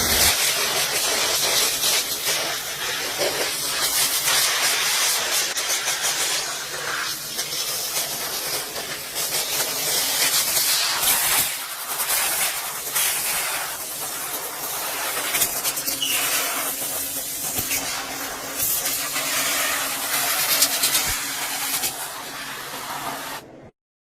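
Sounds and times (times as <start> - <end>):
hissing spray: 0.0 - 23.5.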